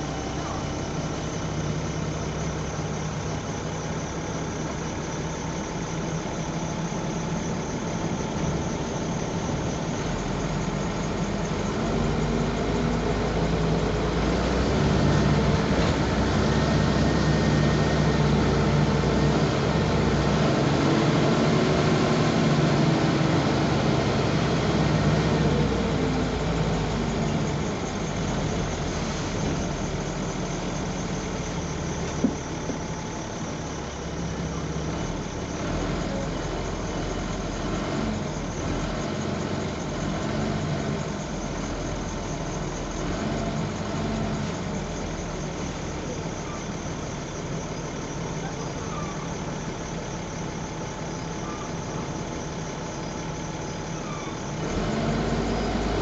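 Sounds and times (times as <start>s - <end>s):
bus engine humming: 0.0s - 56.0s.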